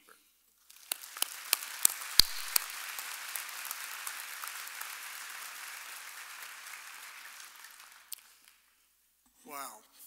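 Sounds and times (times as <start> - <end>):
audience applauding: 0.6 - 8.7.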